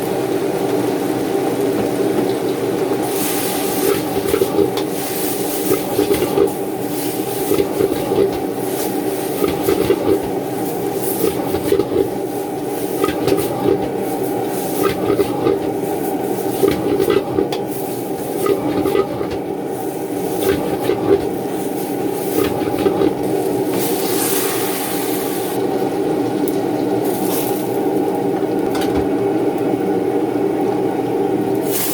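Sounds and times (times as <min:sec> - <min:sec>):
kitchen equipment roaring: 0:00.0 - 0:31.9.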